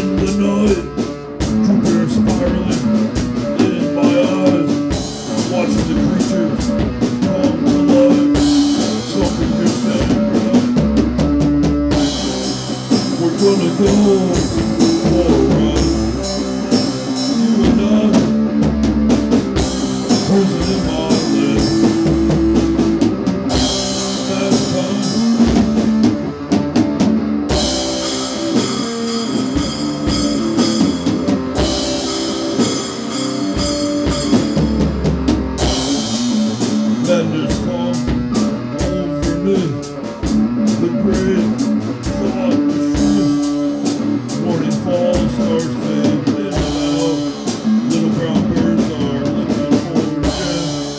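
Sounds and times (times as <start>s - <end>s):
drum kit steady beat: 0.0s - 50.9s
electric guitar playing: 0.0s - 50.9s.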